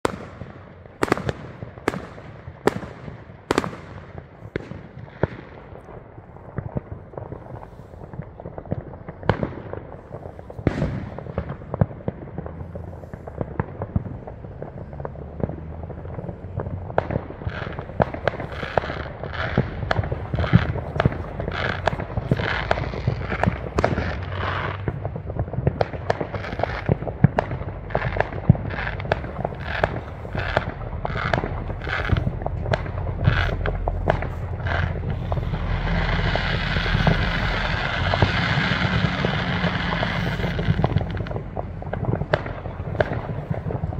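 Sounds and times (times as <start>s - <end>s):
fireworks bangs and pops: 0.0s - 43.9s
fireworks crackle: 0.0s - 43.9s.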